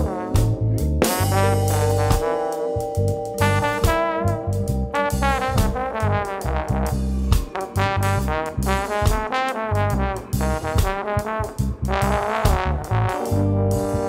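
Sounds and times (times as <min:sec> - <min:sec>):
brass horns playing jazzy melody: 0:00.0 - 0:14.0
low bass line: 0:00.0 - 0:14.0.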